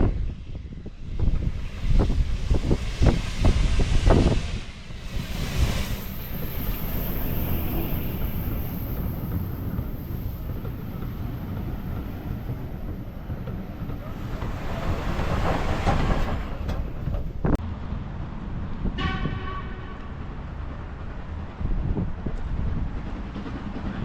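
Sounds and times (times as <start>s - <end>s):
steam locomotive rumbling: 0.0s - 24.0s.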